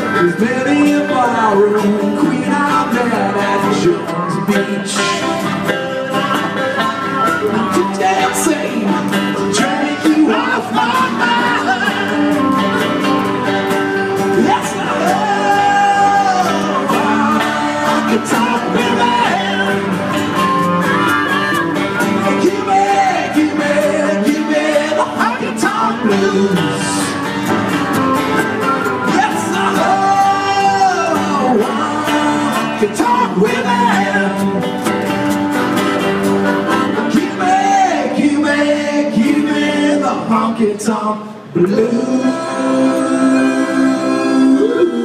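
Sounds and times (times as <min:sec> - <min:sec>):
person singing: 0:00.0 - 0:13.3, 0:14.0 - 0:27.5, 0:28.9 - 0:35.1, 0:36.7 - 0:45.0
plucked guitars: 0:00.0 - 0:45.0.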